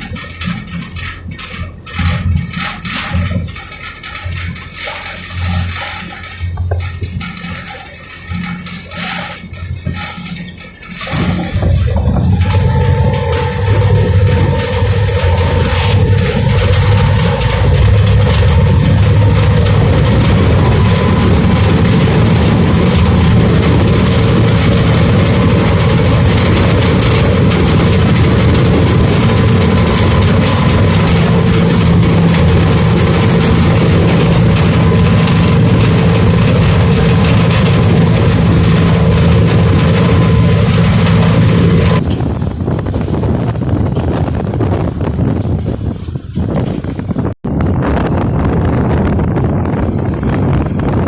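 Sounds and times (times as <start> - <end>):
boat engine running under load: 0.0 - 51.0
steady whine: 0.0 - 51.0.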